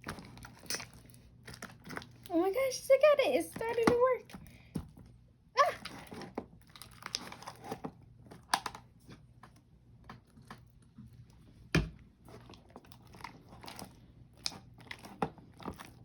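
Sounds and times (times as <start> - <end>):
slime squelching: 0.0 - 5.0, 5.6 - 16.0.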